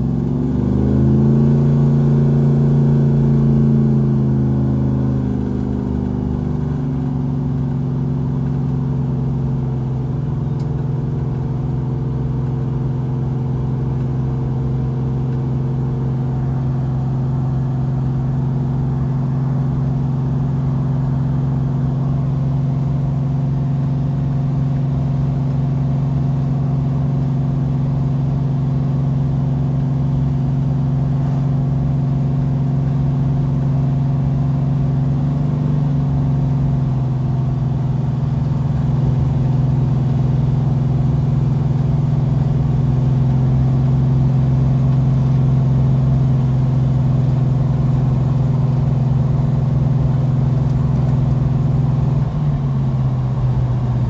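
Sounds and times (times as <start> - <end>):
car engine running inside cabin: 0.0 - 54.0.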